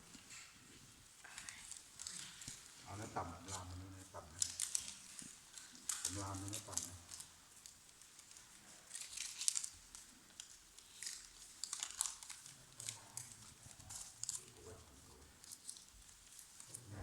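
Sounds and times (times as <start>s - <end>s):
paper crinkling and rustling: 0.1s - 17.0s.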